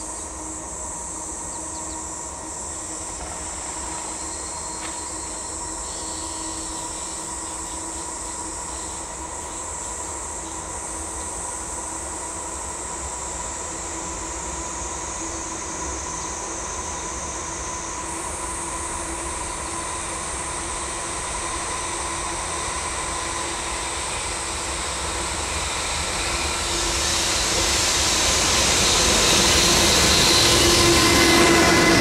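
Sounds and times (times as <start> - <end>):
freight train approaching: 0.0 - 32.0.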